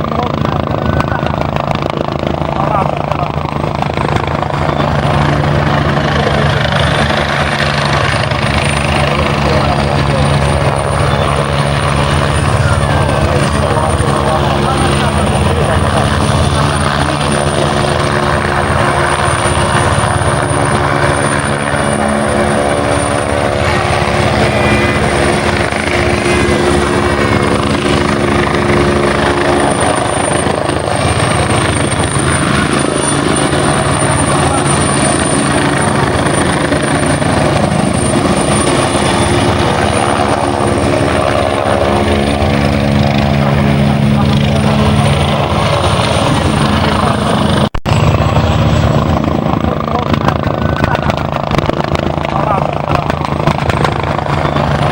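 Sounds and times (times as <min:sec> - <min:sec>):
helicopter hovering: 0:00.0 - 0:54.9.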